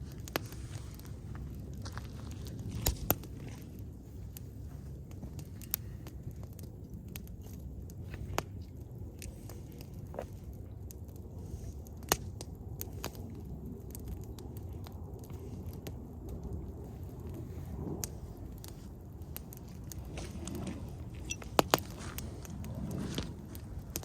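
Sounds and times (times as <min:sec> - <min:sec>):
campfire crackling: 0:00.0 - 0:24.0
fire pops: 0:00.0 - 0:24.0
low rumble: 0:00.0 - 0:24.0.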